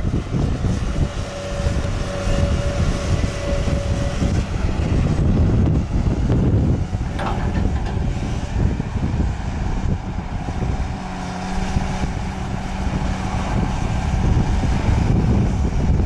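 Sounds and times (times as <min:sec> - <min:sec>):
excavator diesel engine rumble: 0:00.0 - 0:16.0.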